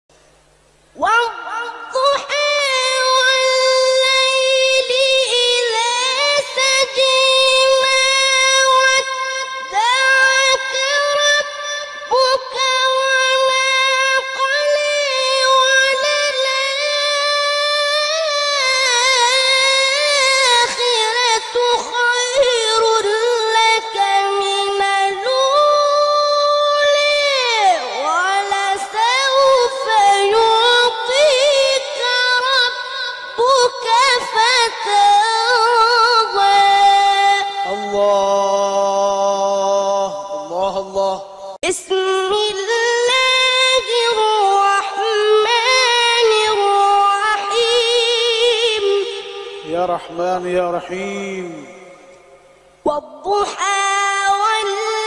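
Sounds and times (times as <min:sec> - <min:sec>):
boy chanting recitation: 0:00.9 - 0:52.1, 0:52.8 - 0:55.0.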